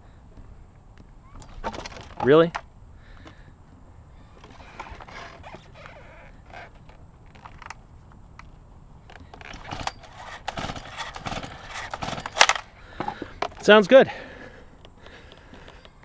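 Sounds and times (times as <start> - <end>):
object clicking and creaking by hand: 1.3 - 13.7, 14.8 - 16.0.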